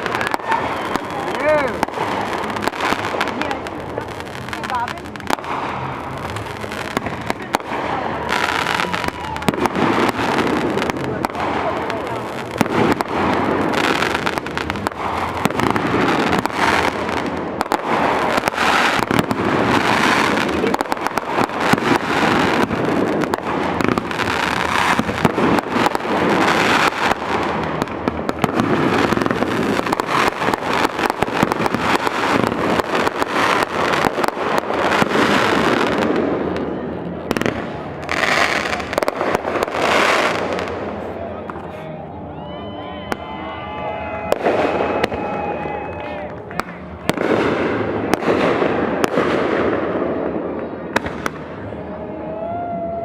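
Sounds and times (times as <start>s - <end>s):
fireworks bursting and crackling: 0.0s - 42.1s, 43.1s - 53.0s.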